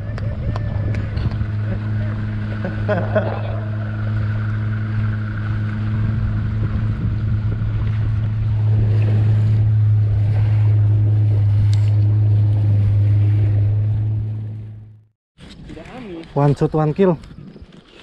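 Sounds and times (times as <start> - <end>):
boat engine running: 0.0 - 15.2.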